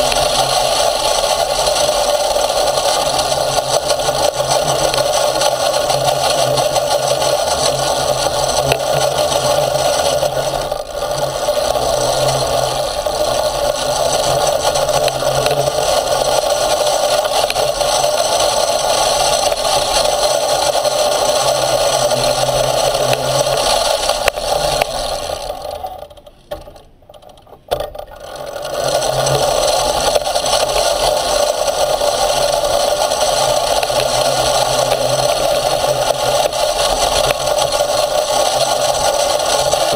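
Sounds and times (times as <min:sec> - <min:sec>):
skate motor running: 0:00.0 - 0:39.9
wheels rattling on dirt trail: 0:00.0 - 0:39.9.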